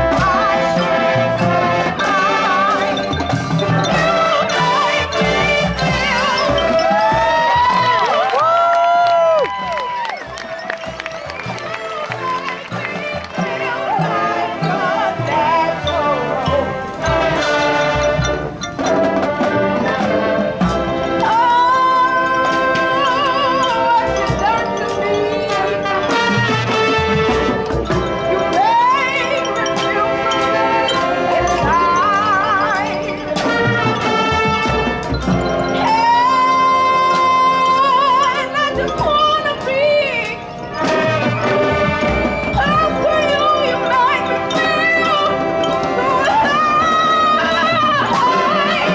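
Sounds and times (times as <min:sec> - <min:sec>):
brass melody: 0:00.0 - 0:48.9
high solo instrument with vibrato: 0:00.0 - 0:48.9
percussion strikes: 0:00.0 - 0:48.9
sustained band chords: 0:00.0 - 0:48.9.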